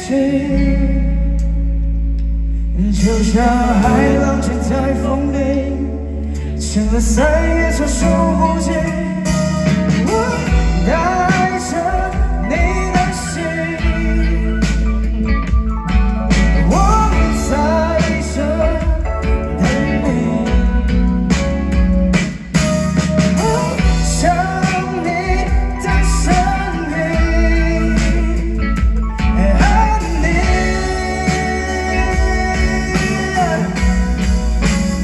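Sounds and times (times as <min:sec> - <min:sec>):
person singing: 0:00.0 - 0:01.7, 0:02.7 - 0:15.6, 0:16.3 - 0:21.8, 0:23.2 - 0:35.0
live rock band playing: 0:00.0 - 0:35.0.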